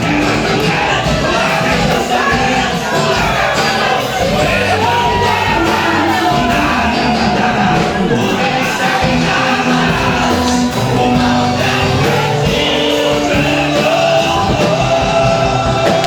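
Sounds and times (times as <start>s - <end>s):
live band playing worship music: 0.0s - 16.0s
people shouting: 0.0s - 16.0s
people singing: 0.0s - 16.0s.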